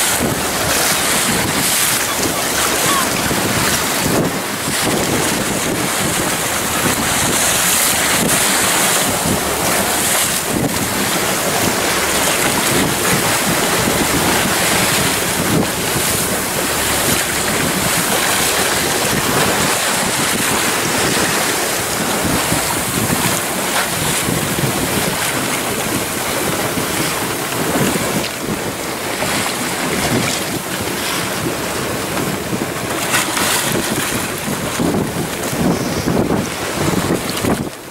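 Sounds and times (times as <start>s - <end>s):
water rushing past boat hull: 0.0s - 37.9s
wind rushing over microphone: 0.0s - 37.9s.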